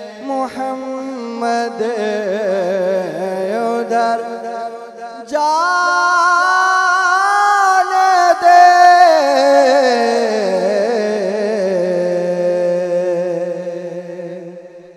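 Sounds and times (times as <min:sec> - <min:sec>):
man singing unaccompanied: 0:00.0 - 0:14.9.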